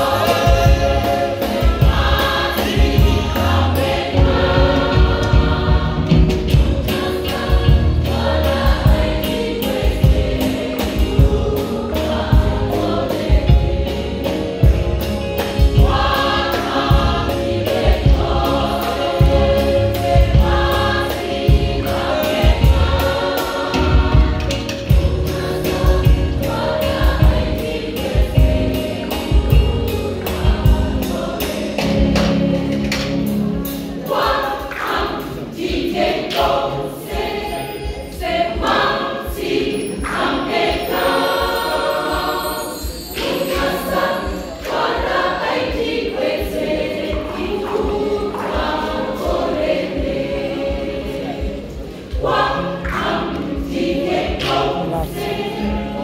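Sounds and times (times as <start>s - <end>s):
choir singing gospel: 0.0s - 56.0s
steady rhythmic beat: 0.0s - 56.0s.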